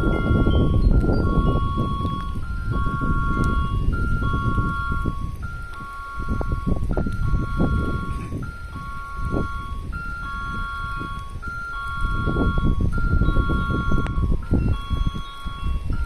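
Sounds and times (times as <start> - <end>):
two-note electronic warning tone: 0.0 - 16.0.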